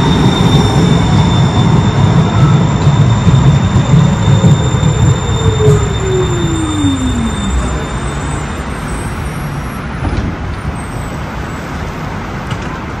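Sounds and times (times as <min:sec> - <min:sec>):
tram and road traffic rumble: 0:00.0 - 0:13.0.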